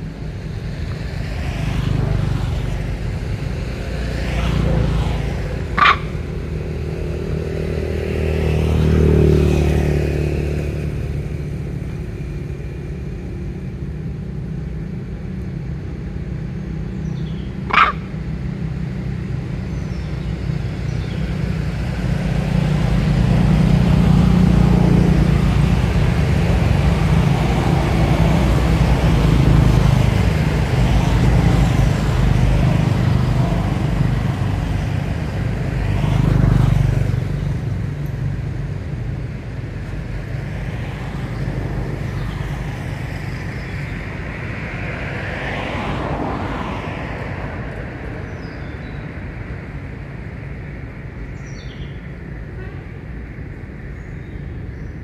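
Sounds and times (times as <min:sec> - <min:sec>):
traffic engines rumbling: 0:00.0 - 0:55.0.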